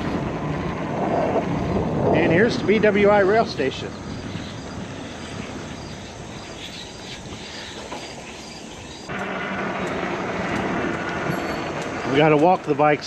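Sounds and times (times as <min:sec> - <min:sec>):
steady rushing with low hum: 0:00.0 - 0:12.4
wind and rolling noise: 0:00.0 - 0:13.0.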